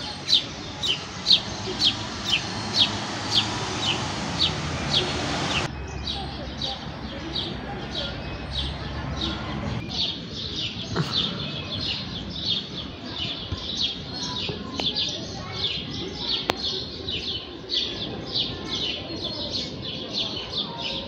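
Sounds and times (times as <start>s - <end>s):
sparrows chirping: 0.0s - 21.0s.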